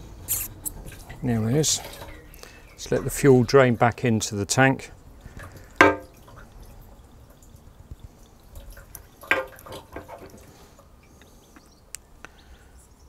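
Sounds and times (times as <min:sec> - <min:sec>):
fuel dripping and trickling: 0:00.0 - 0:13.0.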